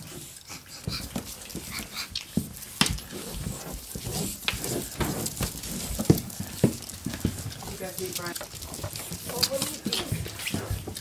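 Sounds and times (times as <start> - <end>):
puppy paws clicking on floor: 0.0 - 11.0.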